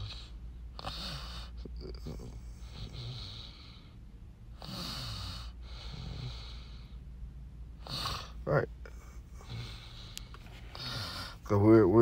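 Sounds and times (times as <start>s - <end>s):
man breathing: 0.0s - 7.2s, 7.8s - 11.5s
low hum: 1.5s - 4.6s, 5.5s - 12.0s.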